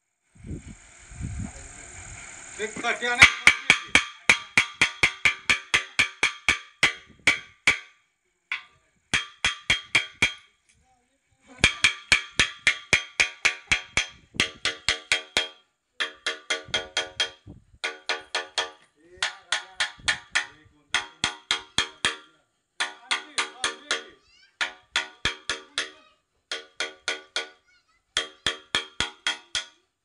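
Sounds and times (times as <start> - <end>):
metallic raps on iron pipe: 2.8 - 10.6, 11.5 - 27.6, 28.2 - 29.9.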